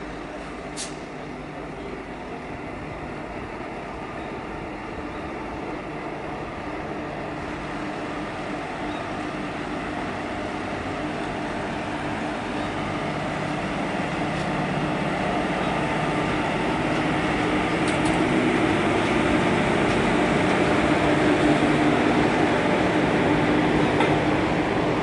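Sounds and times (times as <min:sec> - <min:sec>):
locomotive hum: 0:00.0 - 0:25.0
train wheels rumbling on rails: 0:00.0 - 0:25.0.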